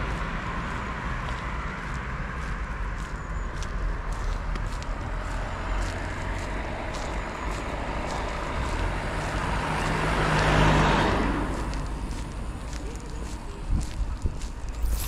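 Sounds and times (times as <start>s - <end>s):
low traffic rumble: 0.0s - 15.0s
vehicle passing on road: 0.0s - 15.0s.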